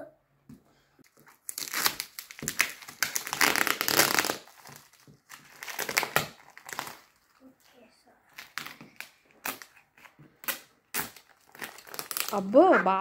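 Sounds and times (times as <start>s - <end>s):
plastic wrapping crinkling: 1.0s - 7.4s, 8.3s - 13.0s.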